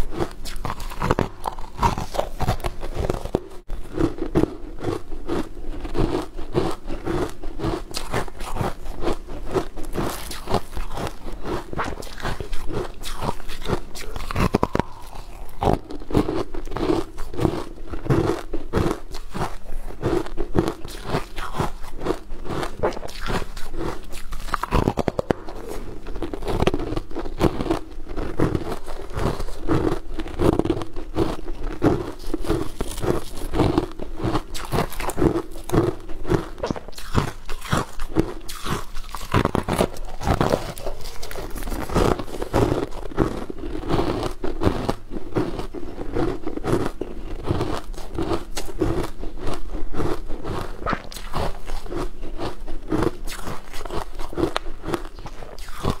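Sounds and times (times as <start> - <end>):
person crunching fried food: 0.0 - 56.0.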